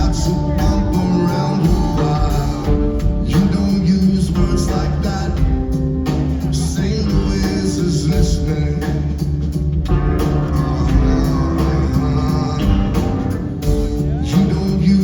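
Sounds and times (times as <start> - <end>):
heavy low bass line: 0.0 - 15.0
live rock band playing: 0.0 - 15.0.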